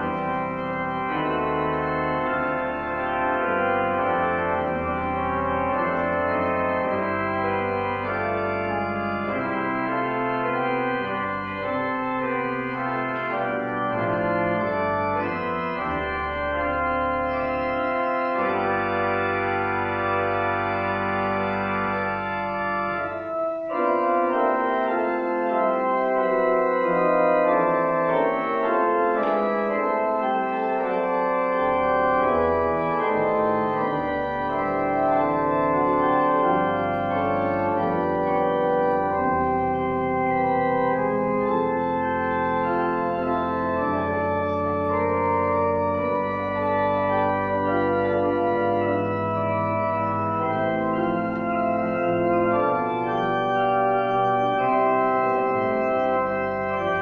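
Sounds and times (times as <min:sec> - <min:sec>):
deep organ pedal bass notes: 0:00.0 - 0:57.0
pipe organ playing held chords: 0:00.0 - 0:57.0.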